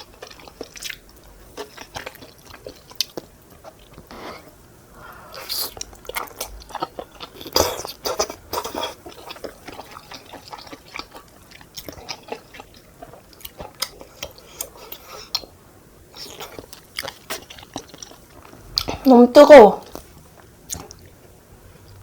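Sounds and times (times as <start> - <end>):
chewing and biting food: 0.0 - 4.1, 5.3 - 15.5, 16.2 - 19.1, 19.9 - 21.2.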